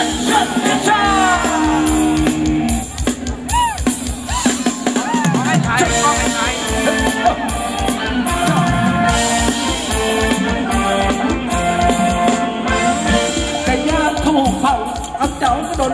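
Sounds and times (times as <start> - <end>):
drum kit beat: 0.0 - 15.9
live dance band: 0.0 - 15.9.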